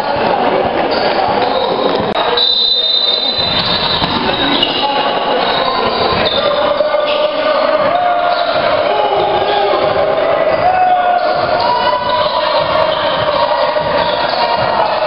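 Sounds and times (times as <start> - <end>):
gym crowd din: 0.0 - 15.0
shoes squeaking on hardwood floor: 0.9 - 15.0.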